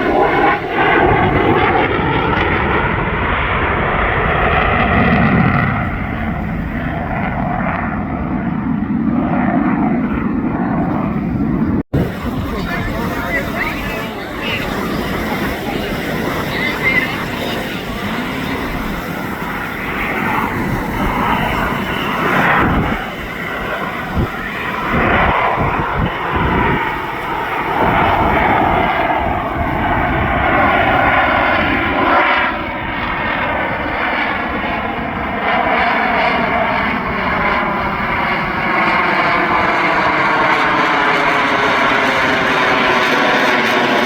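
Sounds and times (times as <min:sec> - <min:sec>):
jet engines flying past: 0:00.0 - 0:44.0.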